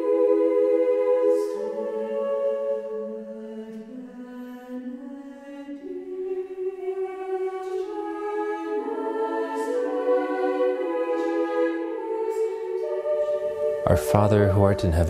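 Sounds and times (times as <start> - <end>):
choir singing long chords: 0.0 - 15.0.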